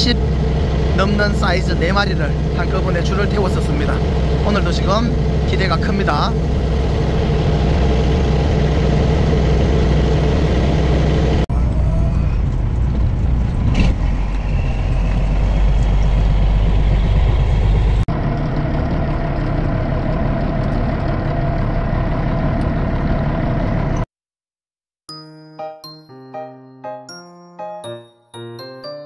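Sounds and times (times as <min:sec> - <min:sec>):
boat engine rumbling: 0:00.0 - 0:24.0.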